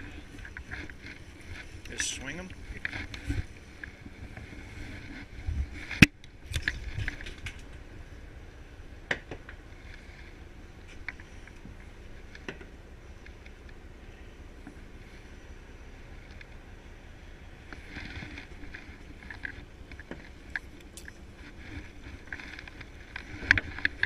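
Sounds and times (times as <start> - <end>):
boat engine rumble: 0.0 - 24.0.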